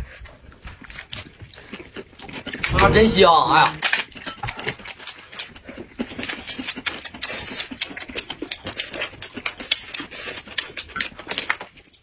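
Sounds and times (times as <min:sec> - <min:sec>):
crisp chewing crunches: 0:00.5 - 0:02.9, 0:03.8 - 0:12.0.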